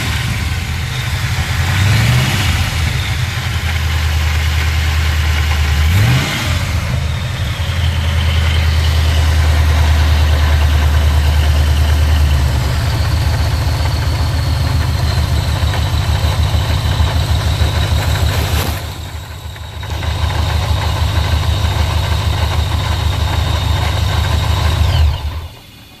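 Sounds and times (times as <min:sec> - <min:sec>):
engine running: 0:00.0 - 0:26.0
supercharger whine: 0:00.0 - 0:26.0.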